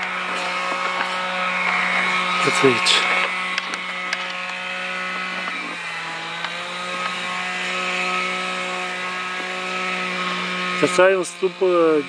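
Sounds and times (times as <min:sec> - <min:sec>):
small engine power tool buzzing: 0:00.0 - 0:12.0.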